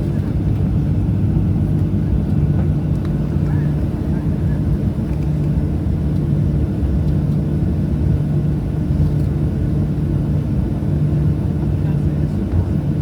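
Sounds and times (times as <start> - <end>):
constant low hum: 0.0 - 13.0
jet engine cabin drone: 0.0 - 13.0.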